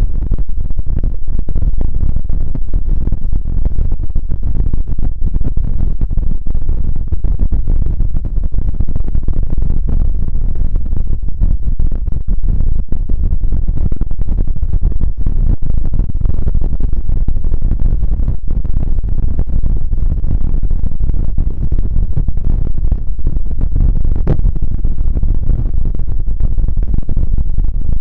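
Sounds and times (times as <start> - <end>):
fluttering low rumble: 0.0 - 28.0.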